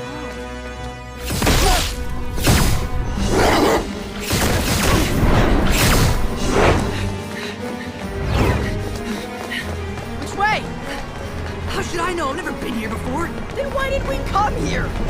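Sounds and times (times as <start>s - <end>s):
dramatic background music: 0.0s - 15.0s.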